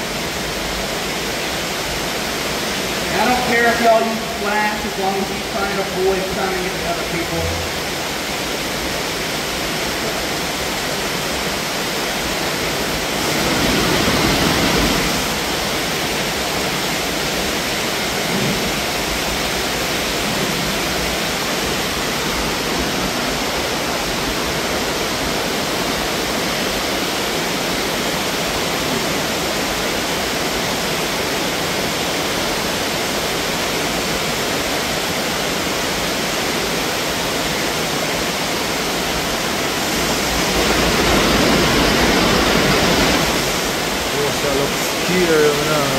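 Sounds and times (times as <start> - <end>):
water rushing in a cave: 0.0 - 45.9.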